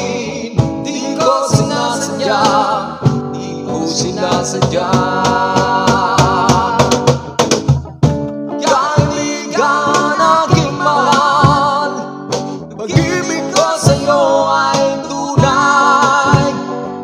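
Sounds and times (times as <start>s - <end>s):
guitar: 0.0s - 17.0s
person singing love ballad: 0.0s - 17.0s.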